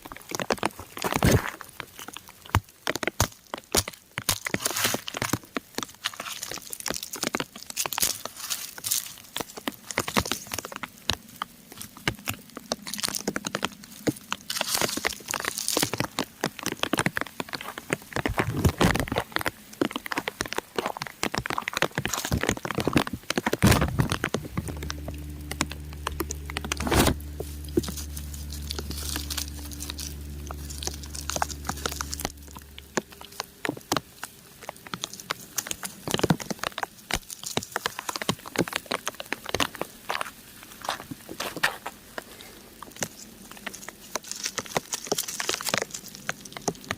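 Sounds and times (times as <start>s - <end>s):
raindrops pattering on rock: 0.0s - 46.9s
low steady hum: 8.7s - 46.9s.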